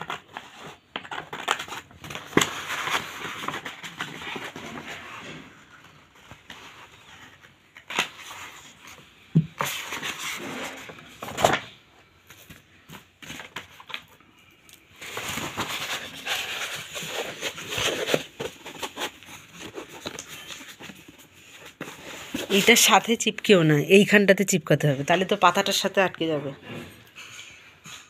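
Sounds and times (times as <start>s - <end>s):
paper rustling and crinkling: 0.0s - 23.2s.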